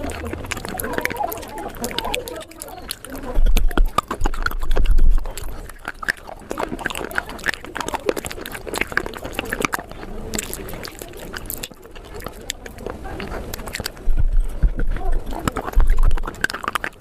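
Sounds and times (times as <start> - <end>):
sharp crackles and crunches: 0.0 - 17.0.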